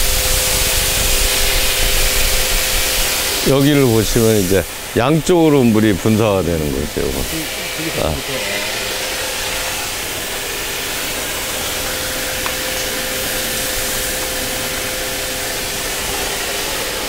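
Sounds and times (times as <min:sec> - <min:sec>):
mist hose spraying hiss: 0:00.0 - 0:17.0.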